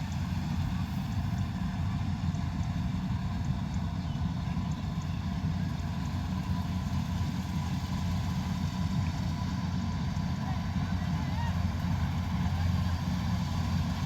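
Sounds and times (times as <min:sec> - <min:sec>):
harvester engine rumbling: 0:00.0 - 0:14.0.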